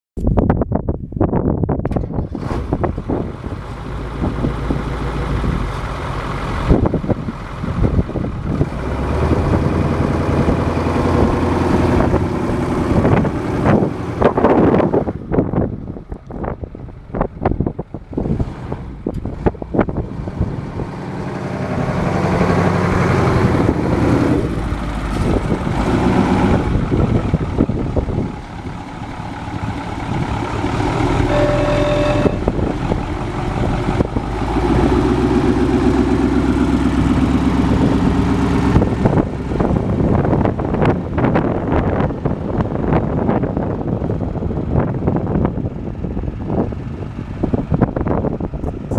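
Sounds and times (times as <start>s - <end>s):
wind buffeting microphone: 0.2s - 48.9s
truck engine revving: 1.9s - 45.5s.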